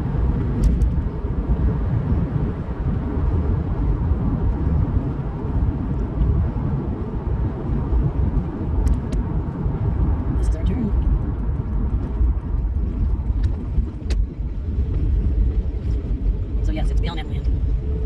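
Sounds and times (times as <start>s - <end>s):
vehicle engine and tyre rumble: 0.0s - 18.0s.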